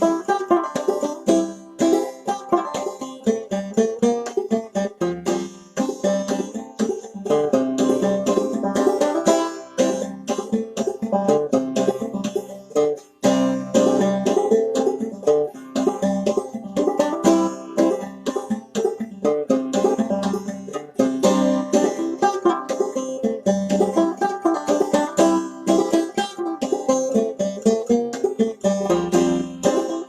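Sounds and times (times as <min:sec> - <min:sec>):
clawhammer banjo playing: 0:00.0 - 0:30.0.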